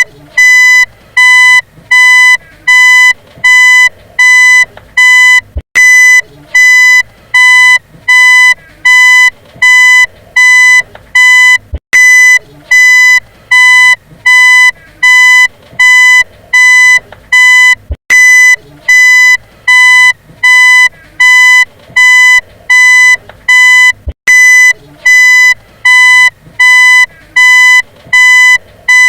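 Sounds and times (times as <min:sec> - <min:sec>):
reversing beeper beeping: 0:00.0 - 0:29.0.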